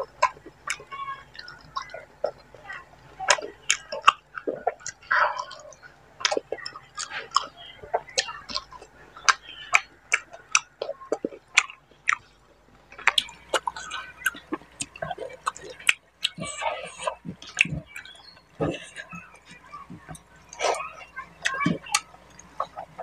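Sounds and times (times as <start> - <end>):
chewing and lip-smacking: 0.0 - 23.0.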